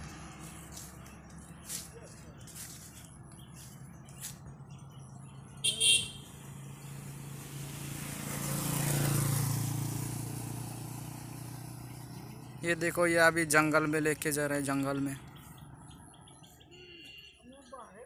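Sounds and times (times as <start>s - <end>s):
motorcycle passing by: 0.0s - 1.9s, 2.6s - 16.7s.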